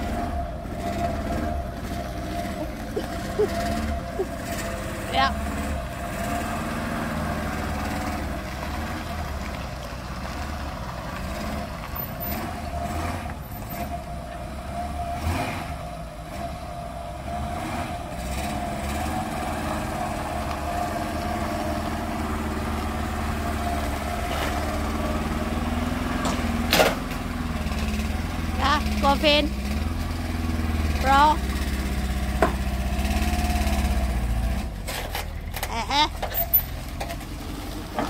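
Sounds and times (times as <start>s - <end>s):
car engine running: 0.0s - 17.3s, 18.7s - 38.0s.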